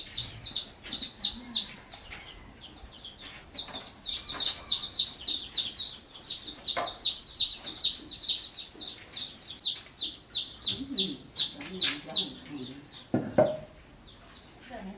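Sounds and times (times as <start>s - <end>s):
chicks peeping: 0.0s - 14.9s.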